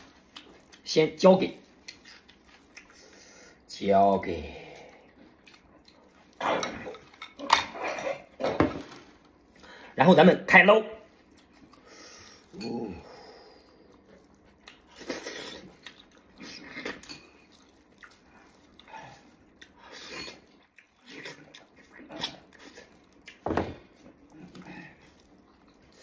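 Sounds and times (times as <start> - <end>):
wet chewing mouth sounds: 0.0 - 3.6, 5.1 - 8.4, 11.1 - 26.0.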